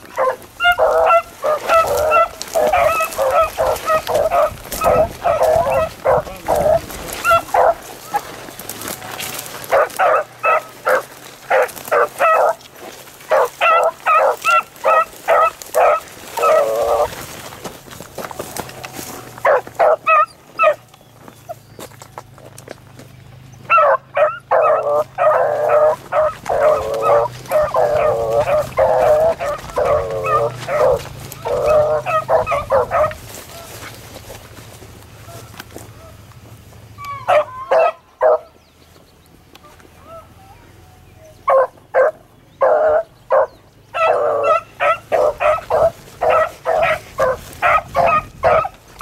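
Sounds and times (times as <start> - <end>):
dogs baying: 0.0 - 22.8, 23.4 - 38.6, 41.2 - 49.0.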